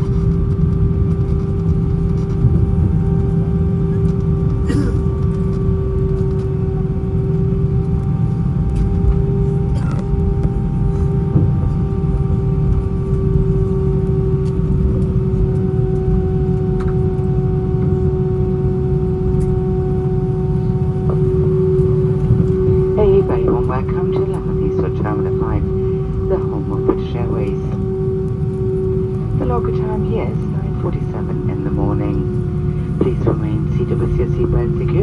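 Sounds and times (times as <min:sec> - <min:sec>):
aircraft engines idling: 0:00.0 - 0:35.0.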